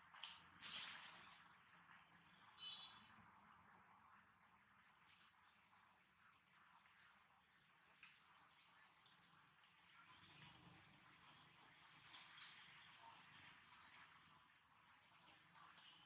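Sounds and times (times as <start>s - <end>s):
insect chirping: 0.1s - 16.0s.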